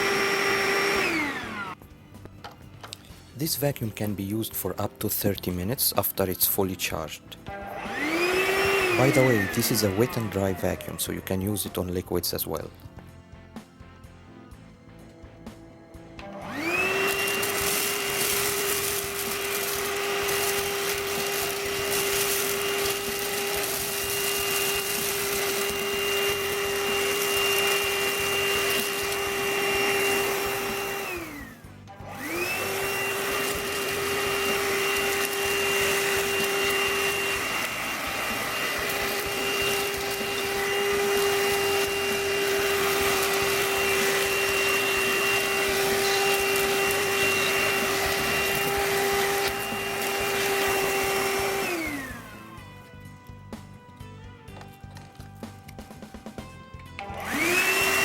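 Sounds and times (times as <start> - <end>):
handheld vacuum cleaner motor: 0.0 - 2.3, 7.4 - 11.7, 16.2 - 58.0.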